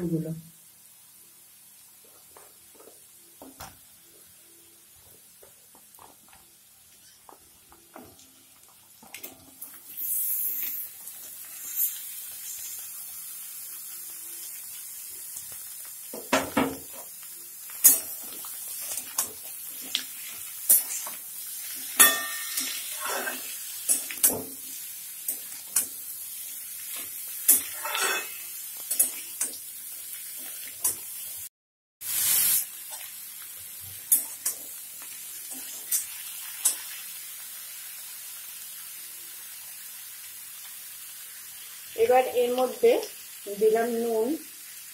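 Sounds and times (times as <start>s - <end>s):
vegetables sizzling in oil: 0.0s - 44.9s.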